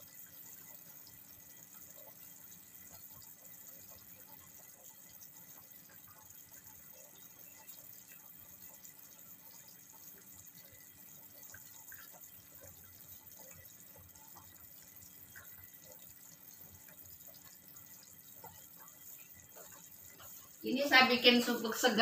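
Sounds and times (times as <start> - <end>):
soup bubbling in a saucepan: 0.0 - 22.0.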